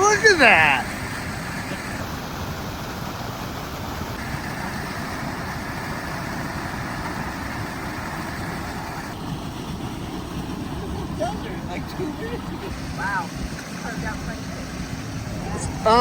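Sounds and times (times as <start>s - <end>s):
rushing flood water roar: 0.0s - 16.0s.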